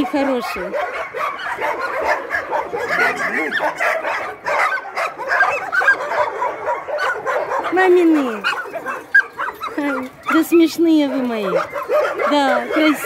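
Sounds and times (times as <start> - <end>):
dogs barking and yelping: 0.0 - 13.0.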